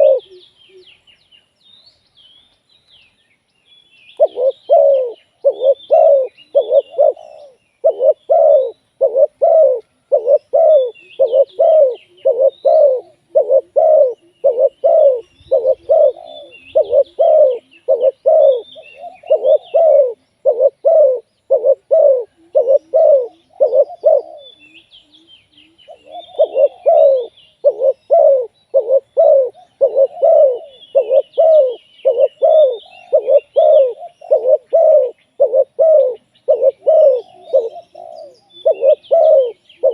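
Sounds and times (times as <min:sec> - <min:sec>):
dove cooing: 0:00.0 - 0:01.0, 0:04.2 - 0:39.9
small birds chirping: 0:00.0 - 0:39.9.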